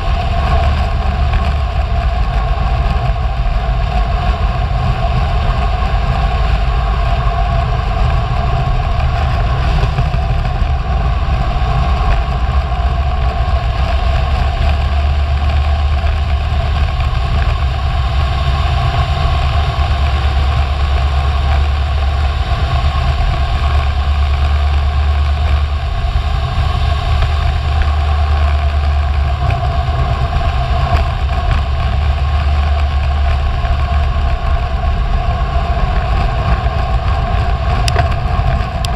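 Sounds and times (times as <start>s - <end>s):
constant hum: 0.0s - 38.9s
wind buffeting microphone: 0.0s - 38.9s.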